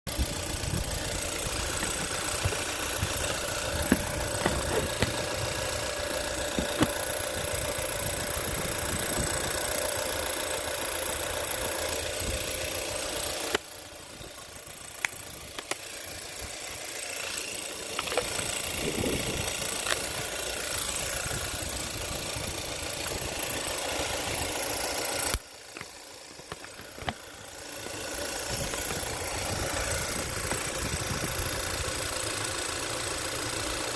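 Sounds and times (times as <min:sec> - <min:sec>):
car engine idling: 0:00.1 - 0:33.9
sharp engine clicks: 0:00.1 - 0:33.9.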